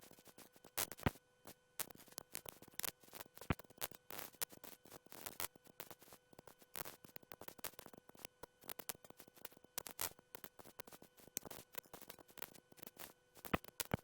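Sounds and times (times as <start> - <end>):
faint steady hum: 0.0 - 14.0
radio static clicks and crackles: 0.0 - 14.0.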